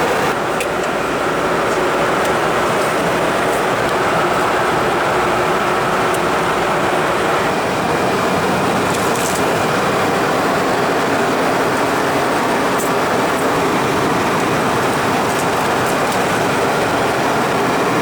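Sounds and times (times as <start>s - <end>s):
jet cabin noise in flight: 0.0s - 18.0s.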